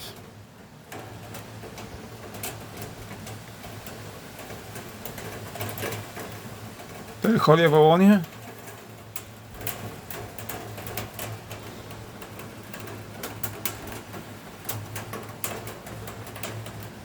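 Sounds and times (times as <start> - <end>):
raindrops ticking on a surface: 0.0 - 17.0.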